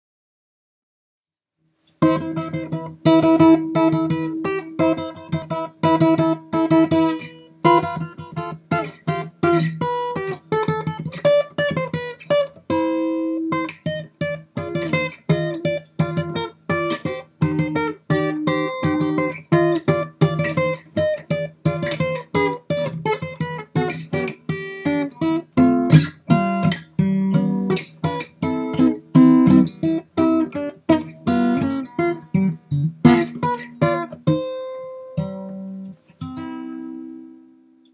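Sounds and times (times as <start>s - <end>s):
acoustic guitar plucking and strumming: 1.8s - 37.9s.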